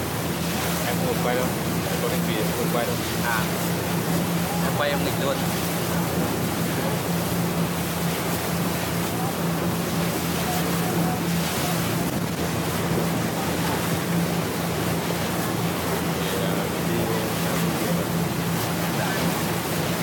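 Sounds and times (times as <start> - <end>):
motorboat engine drone: 0.0 - 20.0
water rushing along hull: 0.0 - 20.0.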